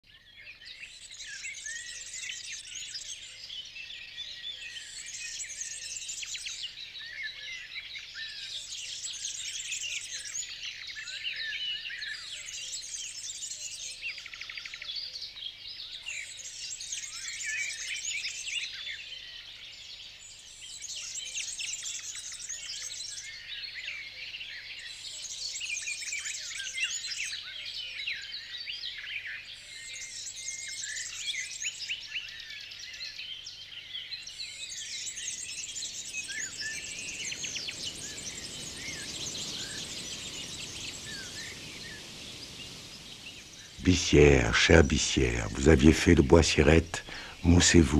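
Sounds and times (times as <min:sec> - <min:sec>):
small birds chirping and singing: 0:00.0 - 0:47.9.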